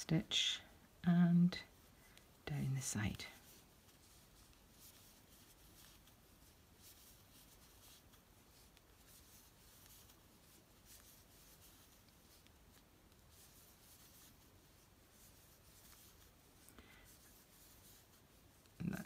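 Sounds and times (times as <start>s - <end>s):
crochet hook drawing yarn: 1.7s - 19.0s.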